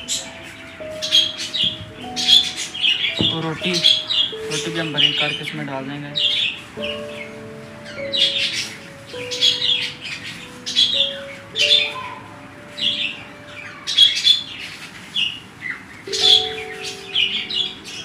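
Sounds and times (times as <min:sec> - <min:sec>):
budgies chirping: 0:00.0 - 0:18.0
soft background music: 0:00.0 - 0:18.0.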